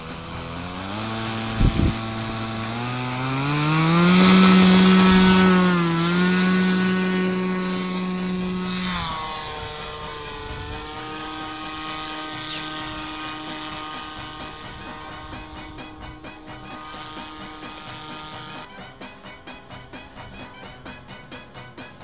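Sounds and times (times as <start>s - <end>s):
propeller motor revving: 0.0s - 22.0s.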